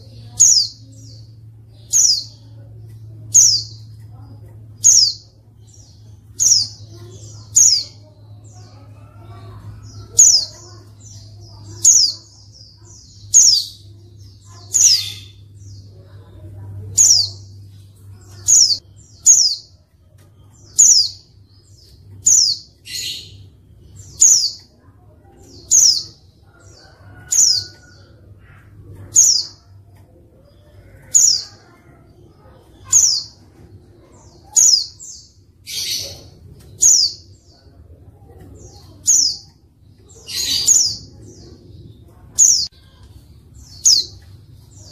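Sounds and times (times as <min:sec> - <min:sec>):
bird chirping: 0:00.0 - 0:44.9.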